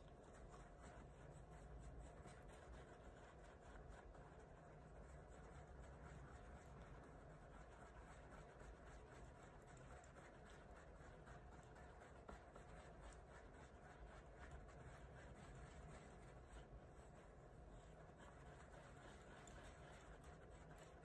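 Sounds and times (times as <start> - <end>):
low room hiss: 0.0 - 21.0
tool scratching in wet paste: 0.0 - 21.0.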